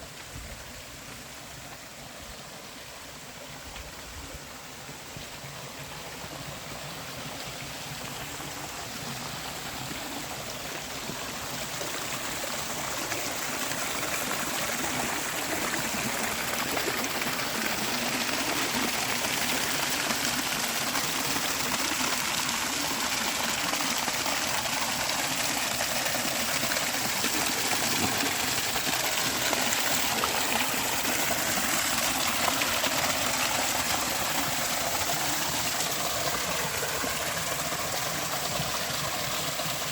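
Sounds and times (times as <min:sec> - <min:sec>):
creek water rushing over cascades: 0:00.0 - 0:39.9.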